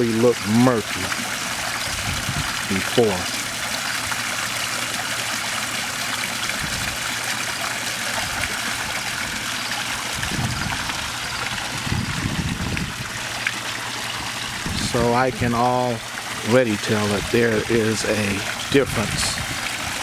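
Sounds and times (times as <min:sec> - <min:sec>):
waterfall splashing: 0:00.0 - 0:20.0.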